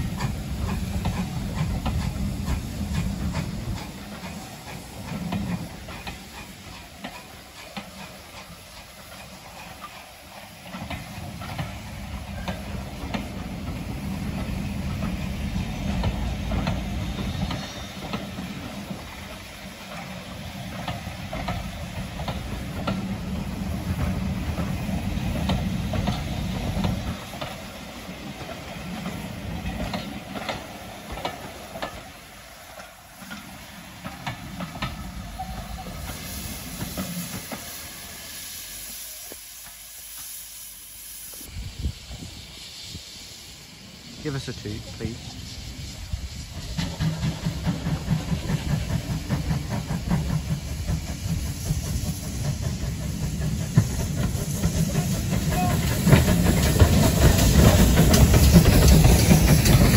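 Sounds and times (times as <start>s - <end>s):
wheels clicking over rail joints: 0.0s - 37.7s, 46.4s - 59.9s
steam hissing: 0.0s - 59.9s.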